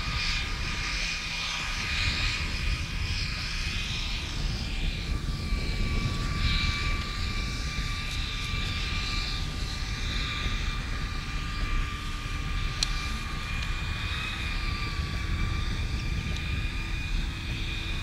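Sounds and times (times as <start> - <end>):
high motor whine: 0.0 - 18.0
wind rumbling on microphone: 0.0 - 18.0.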